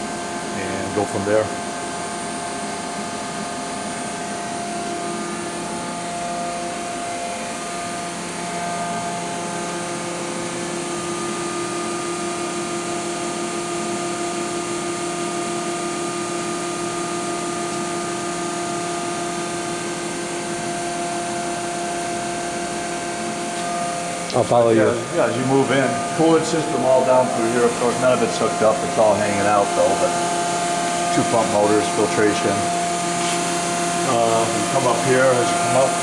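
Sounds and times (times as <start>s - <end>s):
machine whirring and humming: 0.0s - 36.0s.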